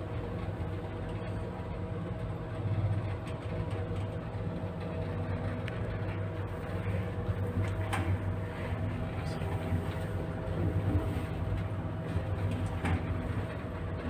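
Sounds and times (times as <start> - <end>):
elevator hum: 0.0 - 14.0.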